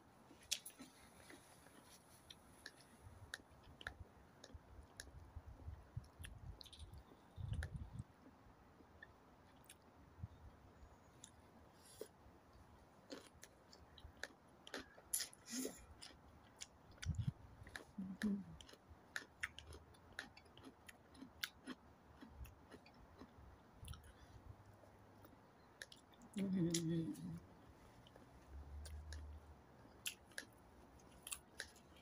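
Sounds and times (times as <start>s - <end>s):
person chewing food: 0.4s - 26.4s, 27.4s - 32.0s.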